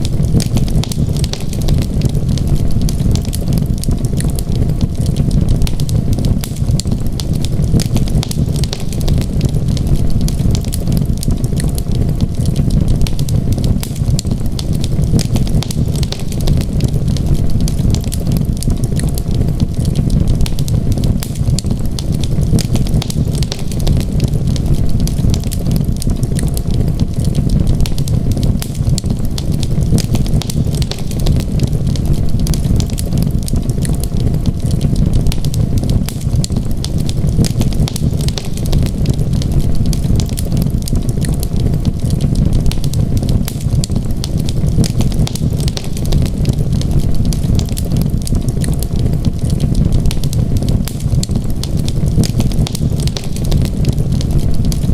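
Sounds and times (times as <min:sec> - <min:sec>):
steady low rumble: 0:00.0 - 0:54.9
wood fire crackling: 0:00.0 - 0:54.9.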